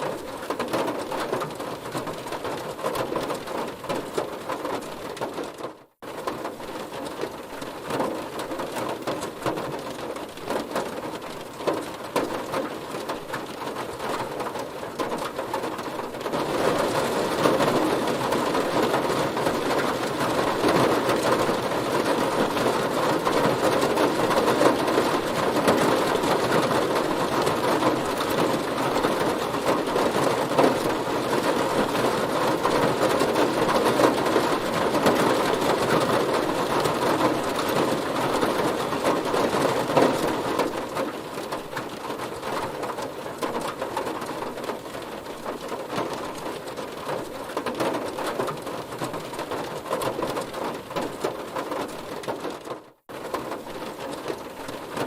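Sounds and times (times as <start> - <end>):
heavy rain on car body: 0.0 - 55.0.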